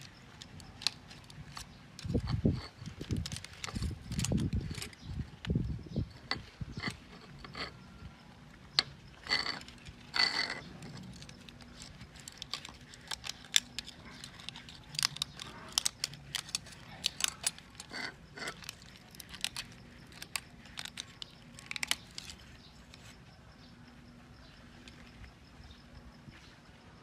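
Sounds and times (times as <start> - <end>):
rasping noises: 0.0 - 8.2, 8.8 - 23.3.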